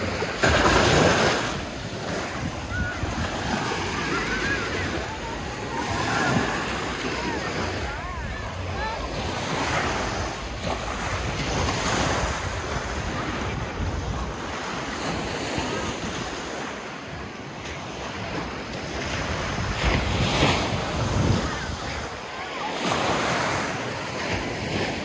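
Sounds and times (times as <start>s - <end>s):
wind buffeting microphone: 0.0s - 16.4s, 18.2s - 22.2s
small waves washing on shore: 0.0s - 25.0s.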